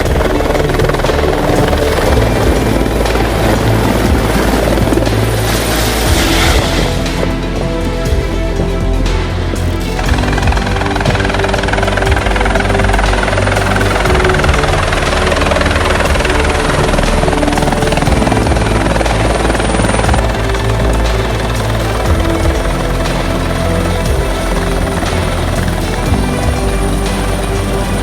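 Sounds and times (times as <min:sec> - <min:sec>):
helicopter rotor beat: 0:00.0 - 0:28.0
helicopter turbine whine: 0:00.0 - 0:28.0
music: 0:00.0 - 0:28.0.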